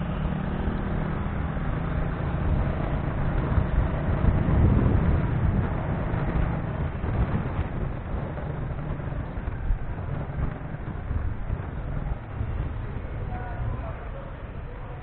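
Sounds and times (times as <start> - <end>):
vehicle rumble: 0.0 - 15.0
wind buffeting microphone: 0.0 - 15.0.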